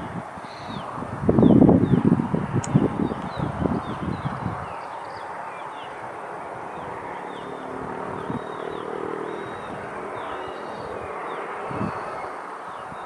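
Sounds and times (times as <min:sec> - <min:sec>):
small birds chirping: 0:00.0 - 0:13.0
wind buffeting microphone: 0:00.0 - 0:13.0.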